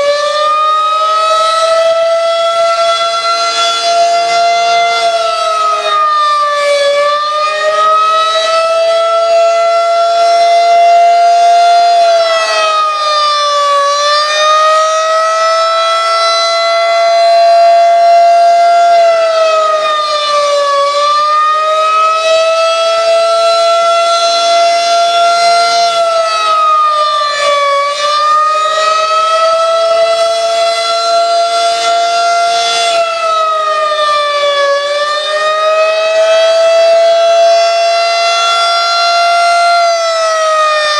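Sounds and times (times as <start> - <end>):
civil defense siren: 0.0 - 40.9.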